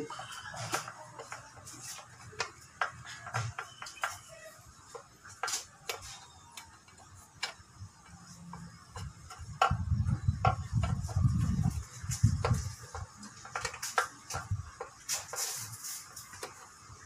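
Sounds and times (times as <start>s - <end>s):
metal parts clicking and tapping: 0.1s - 15.4s.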